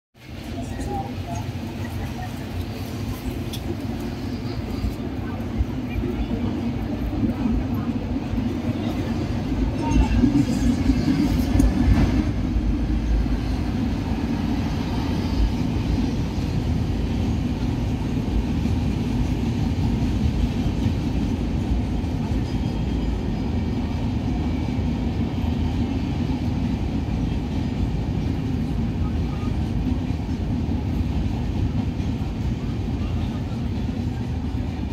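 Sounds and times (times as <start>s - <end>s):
train rumbling over bridge: 0.2s - 34.9s.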